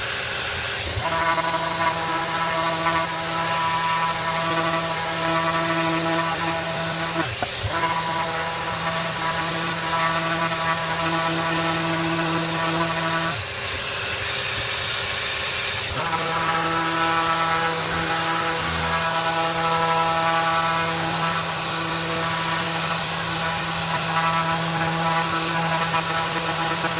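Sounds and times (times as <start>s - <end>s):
electric sander motor hum: 0.0s - 26.9s.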